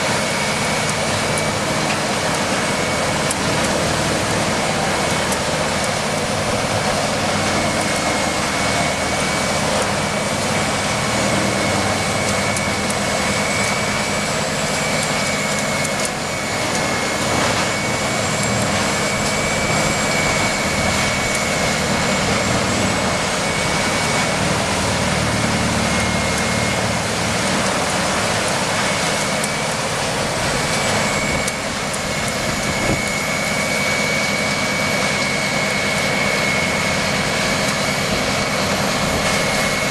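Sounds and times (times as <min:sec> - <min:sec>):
heavy machinery running: 0:00.0 - 0:39.9
high-pitched whine: 0:00.0 - 0:39.9.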